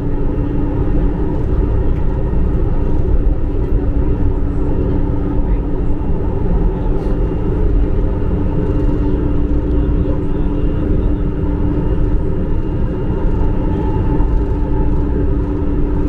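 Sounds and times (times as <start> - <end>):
train motor hum: 0.0 - 16.0
wheels rumbling on rail: 0.0 - 16.0.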